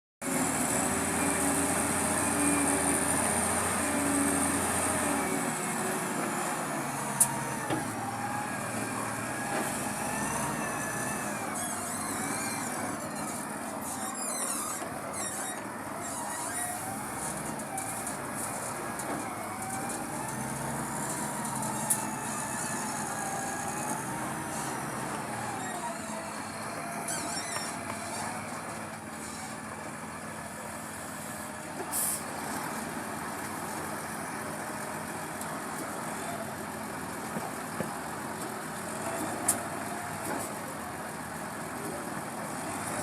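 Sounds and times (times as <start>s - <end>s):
heavy vehicle engine running: 0.2s - 43.0s.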